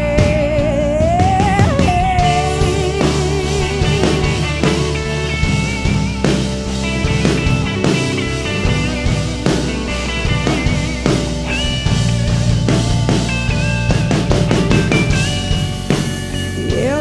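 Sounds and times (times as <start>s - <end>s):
bass and guitar sustained notes: 0.0s - 17.0s
drum kit beat: 0.0s - 17.0s.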